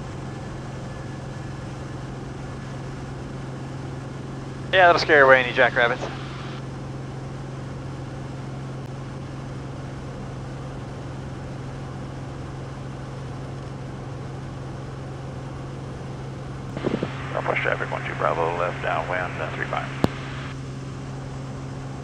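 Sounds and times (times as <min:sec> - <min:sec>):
aircraft engine droning in cabin: 0:00.0 - 0:22.0.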